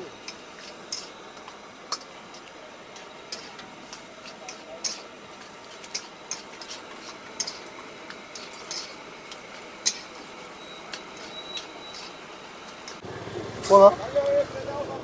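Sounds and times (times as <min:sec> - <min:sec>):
spatulas scraping a steel wok: 0:00.0 - 0:13.0.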